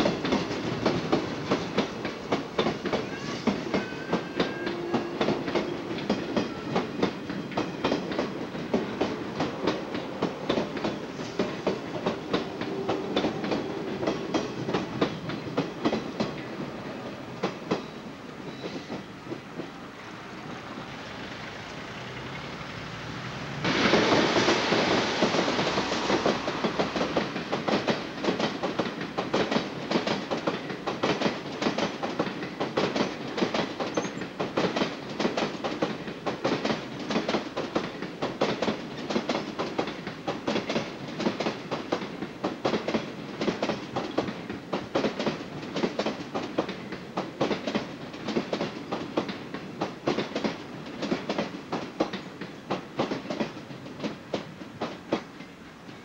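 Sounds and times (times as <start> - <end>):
train wheels clattering over rail joints: 0.0 - 16.6, 23.5 - 56.0.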